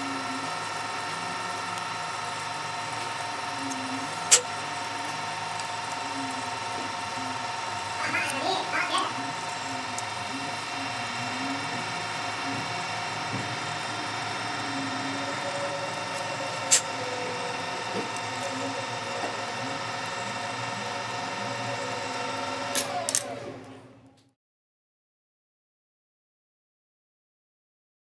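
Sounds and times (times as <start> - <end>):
metal lathe motor whine: 0.0 - 24.1.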